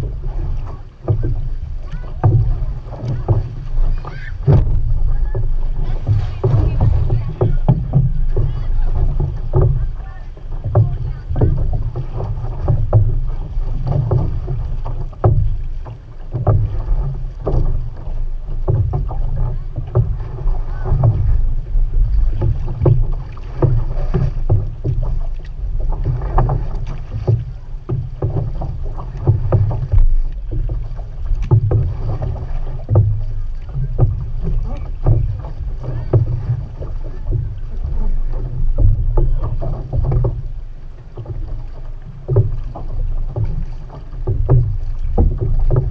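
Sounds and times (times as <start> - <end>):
water splashing against canoe hull: 0.0 - 45.9
wind against microphone: 0.0 - 45.9.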